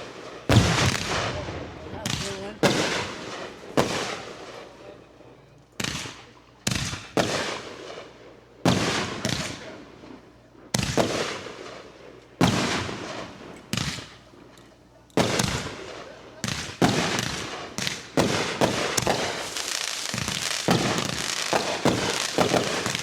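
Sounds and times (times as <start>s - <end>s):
fireworks bangs echoing: 0.0s - 5.2s, 5.8s - 23.0s.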